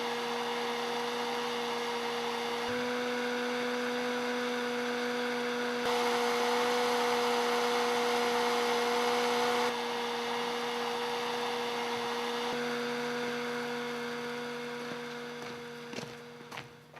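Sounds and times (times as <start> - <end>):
hair dryer running: 0.0 - 16.8.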